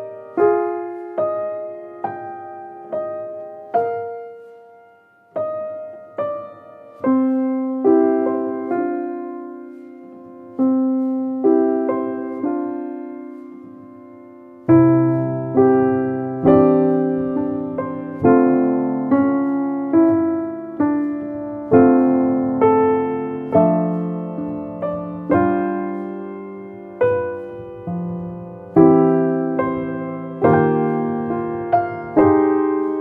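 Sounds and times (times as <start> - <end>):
slow piano music: 0.0 - 33.0.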